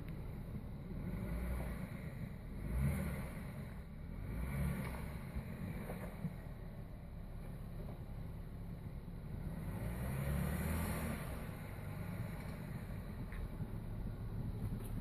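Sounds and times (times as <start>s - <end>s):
car engine running at low speed: 0.0s - 15.0s.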